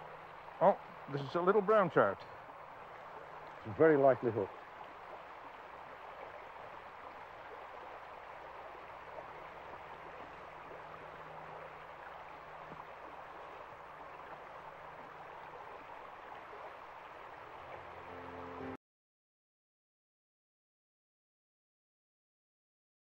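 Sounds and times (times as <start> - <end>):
stream flowing: 0.0 - 18.8.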